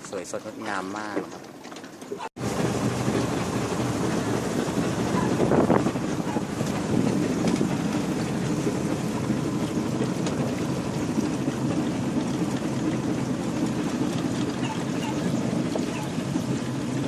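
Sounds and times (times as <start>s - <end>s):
boat engine running: 0.0s - 17.0s
wind buffeting microphone: 2.4s - 17.0s.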